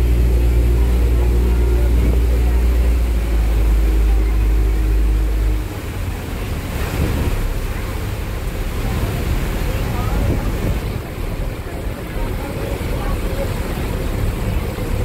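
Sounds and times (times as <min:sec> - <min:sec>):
ferry engine drone: 0:00.0 - 0:15.0
rushing wake water: 0:00.0 - 0:15.0
wind: 0:00.0 - 0:15.0.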